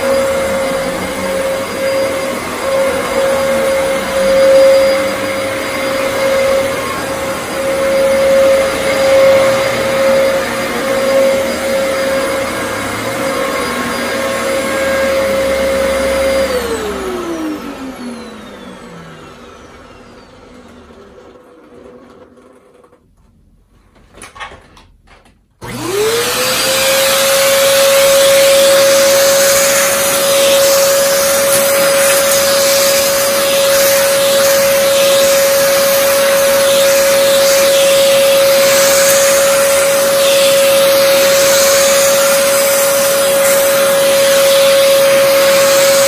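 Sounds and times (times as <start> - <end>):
vacuum cleaner motor whine: 0.0 - 23.0, 25.6 - 46.0.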